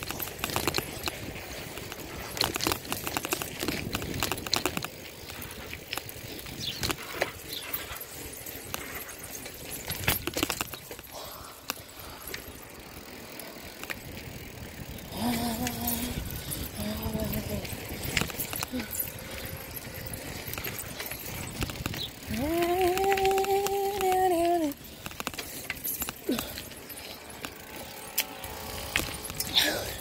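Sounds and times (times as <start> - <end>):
bicycle tyres rolling: 0.0 - 30.0
bike rattling clicks: 0.0 - 30.0.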